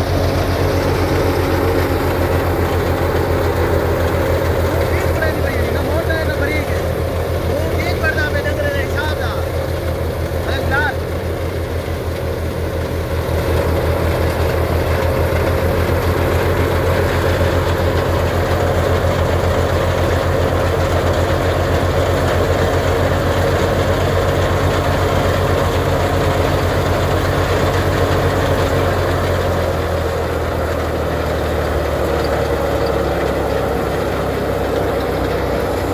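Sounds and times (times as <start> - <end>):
thresher drum and fan whirring: 0.0 - 35.9
tractor diesel engine running: 0.0 - 35.9.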